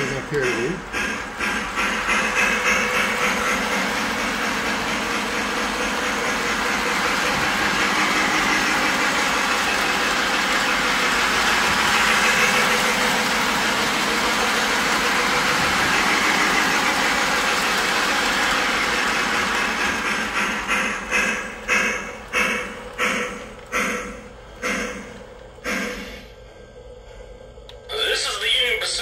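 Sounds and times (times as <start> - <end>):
toy train running on track: 0.0 - 26.0.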